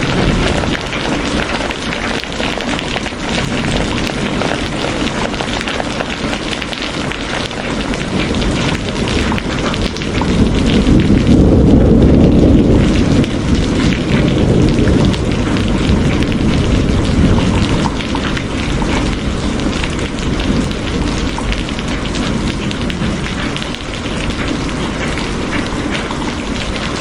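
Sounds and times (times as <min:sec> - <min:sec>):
heavy rain: 0:00.0 - 0:27.0
low rumble of thunder: 0:00.0 - 0:27.0.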